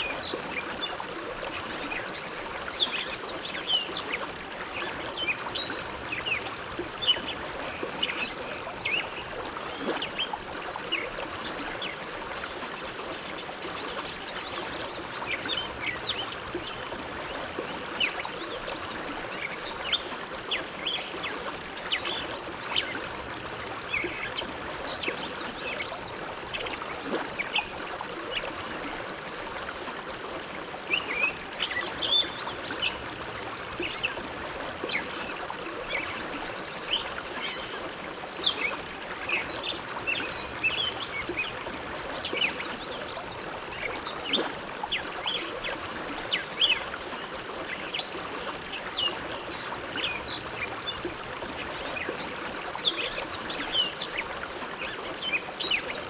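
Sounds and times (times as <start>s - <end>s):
water gurgling and splashing: 0.0s - 56.0s.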